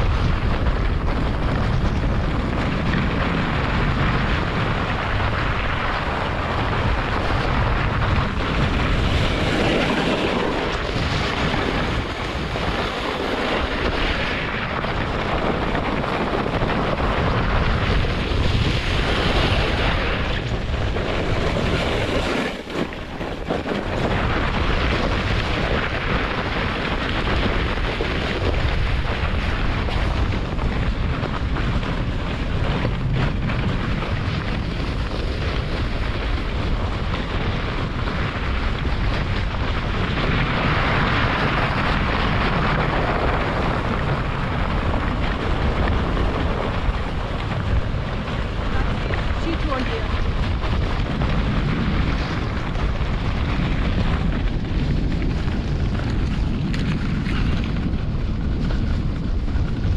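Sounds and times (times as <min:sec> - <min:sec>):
sled runners scraping over snow: 0:00.0 - 0:59.9
wind buffeting microphone: 0:00.0 - 0:59.9.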